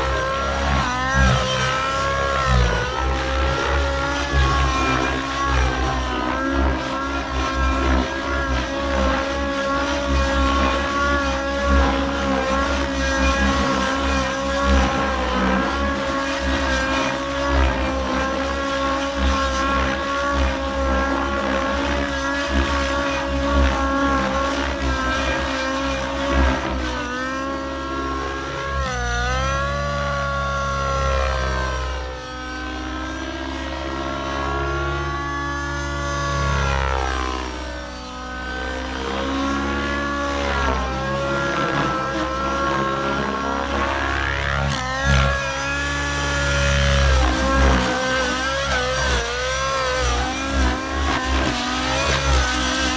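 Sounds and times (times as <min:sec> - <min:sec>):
rc helicopter engine and rotor: 0:00.0 - 0:52.9.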